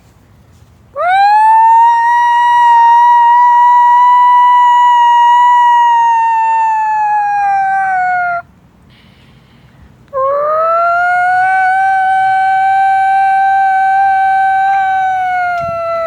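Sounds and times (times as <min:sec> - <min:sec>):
person imitating a siren: 0:01.0 - 0:08.4, 0:10.2 - 0:16.0.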